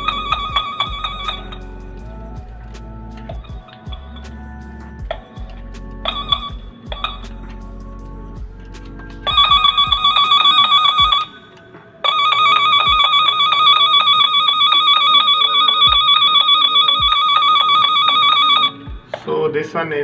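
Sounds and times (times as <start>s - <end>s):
warbling tone from probe speaker: 0.0s - 7.8s, 9.2s - 11.4s, 12.0s - 19.1s.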